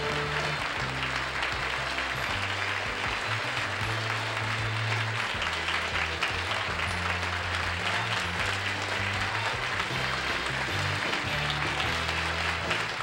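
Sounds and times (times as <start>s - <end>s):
game show theme music: 0.0s - 13.0s
studio audience applauding: 0.0s - 13.0s.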